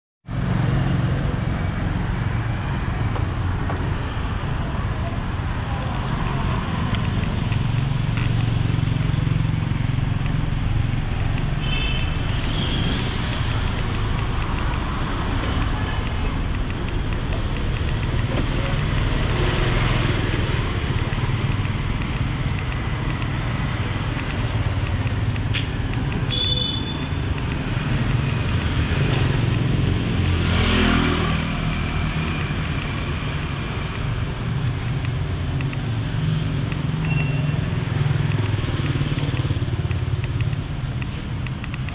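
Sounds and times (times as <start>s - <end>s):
motorbike and car engines passing: 0.3s - 41.8s
voices of passers-by: 0.3s - 41.9s.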